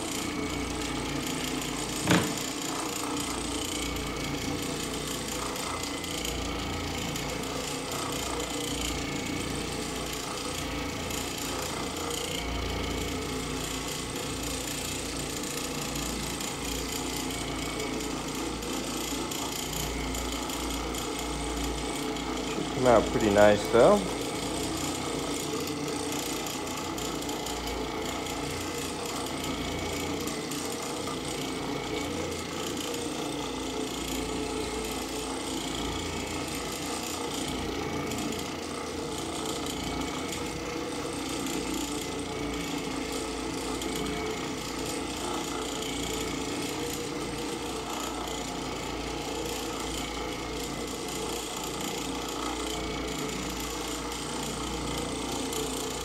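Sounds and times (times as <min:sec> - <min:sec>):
floor machine scrubbing carpet: 0:00.0 - 0:56.0.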